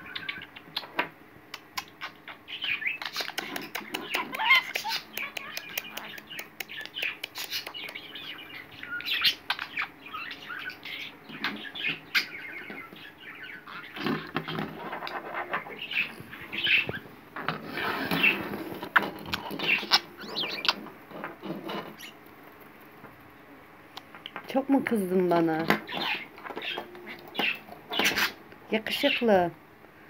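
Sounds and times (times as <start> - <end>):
budgerigar chirping and chattering: 0.0 - 22.3, 25.6 - 29.4.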